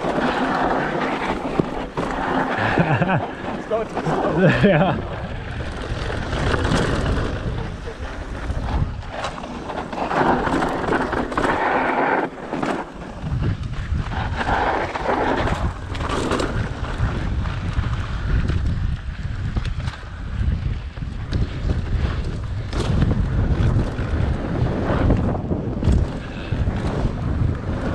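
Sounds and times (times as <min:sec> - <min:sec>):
bike rattling over bumps: 0:00.0 - 0:27.9
wind buffeting microphone: 0:00.0 - 0:27.9.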